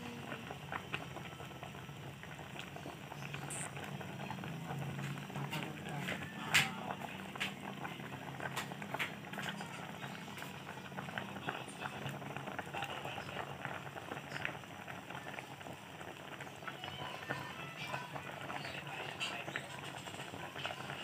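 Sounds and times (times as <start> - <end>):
thick sauce bubbling and popping: 0.0 - 21.0.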